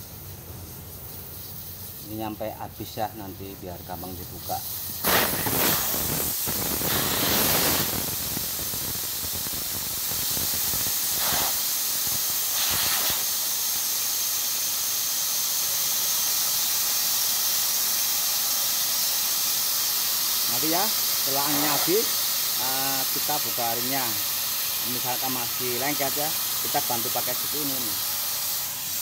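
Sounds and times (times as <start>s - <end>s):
air hissing from tyre valve: 0.0s - 29.0s.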